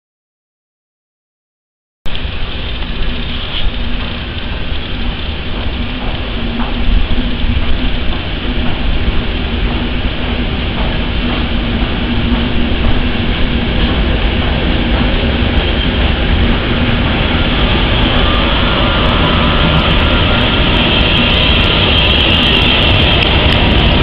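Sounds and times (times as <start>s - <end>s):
train wheels rushing on rails: 2.1s - 24.0s.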